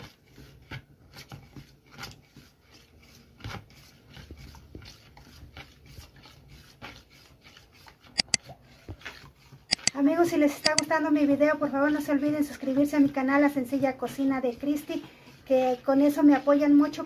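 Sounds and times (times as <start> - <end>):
metal spoon stirring in bowl: 0.0 - 17.0.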